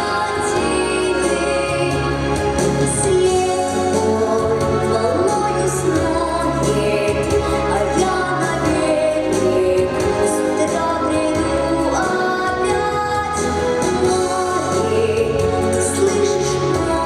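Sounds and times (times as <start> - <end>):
instrumental accompaniment with bass: 0.0 - 17.0.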